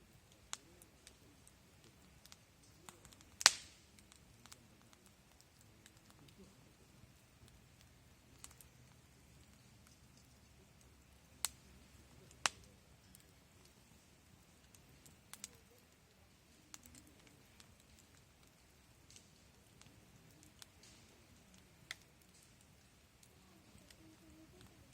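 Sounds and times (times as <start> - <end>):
wood fire crackling: 0.0 - 24.9
sharp pops of fire: 0.2 - 24.9.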